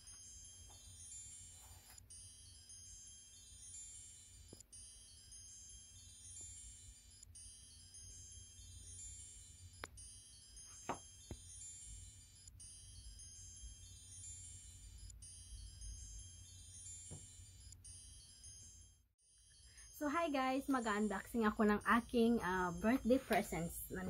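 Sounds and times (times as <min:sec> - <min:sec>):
twinkling chime tones: 0:00.0 - 0:24.0.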